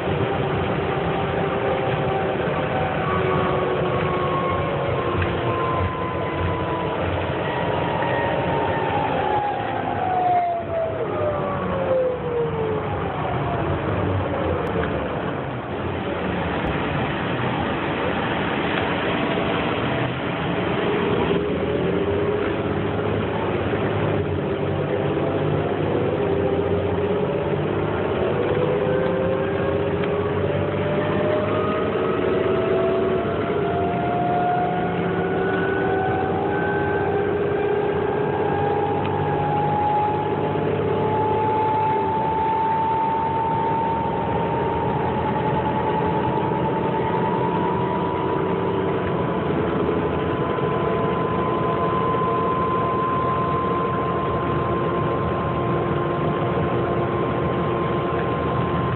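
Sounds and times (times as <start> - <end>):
bus engine running: 0.0 - 58.9
drivetrain whine rising: 0.0 - 58.9.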